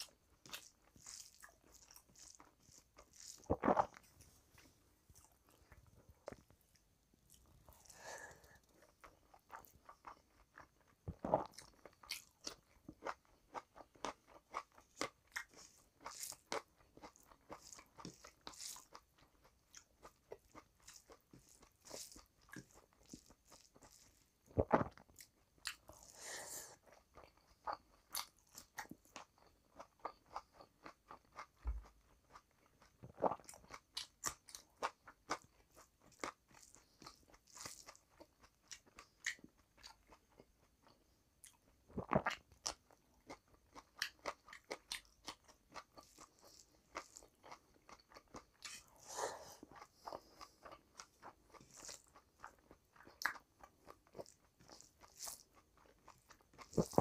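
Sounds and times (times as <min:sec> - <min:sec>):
person chewing and crunching food: 0:00.0 - 0:57.0.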